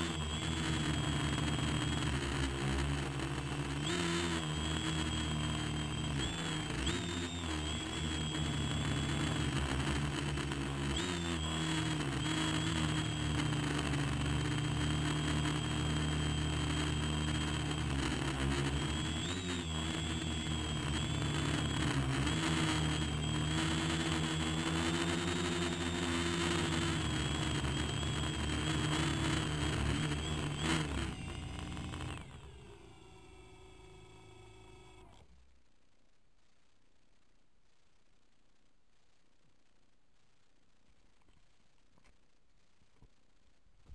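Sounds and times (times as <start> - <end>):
model aircraft motors whining: 0.0 - 35.2.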